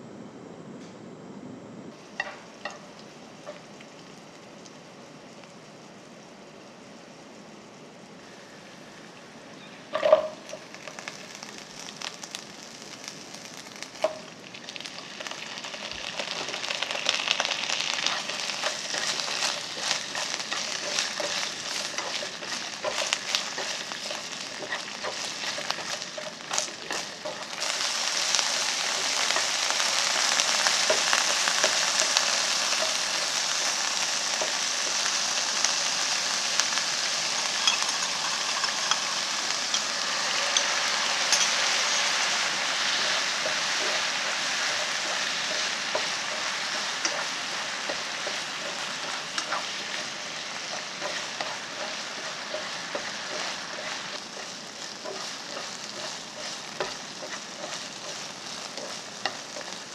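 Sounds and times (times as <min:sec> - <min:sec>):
food sizzling in oil: 0:02.0 - 0:59.9.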